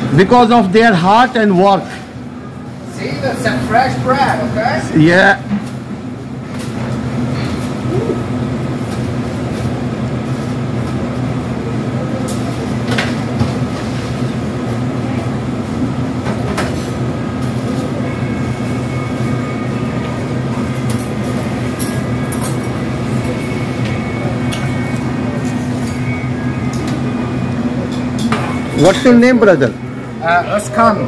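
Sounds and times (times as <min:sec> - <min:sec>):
kitchen machinery hum: 0:00.0 - 0:31.0.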